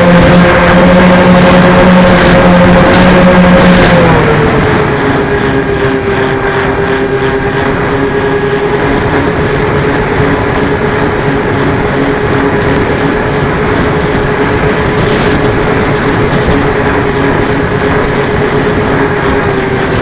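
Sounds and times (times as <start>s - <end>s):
small engine droning: 0.0s - 20.0s
wind noise on microphone: 0.0s - 20.0s.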